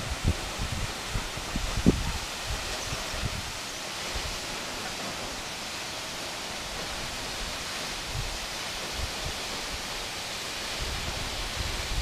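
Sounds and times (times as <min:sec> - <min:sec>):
waterfall rushing hiss: 0:00.0 - 0:12.0.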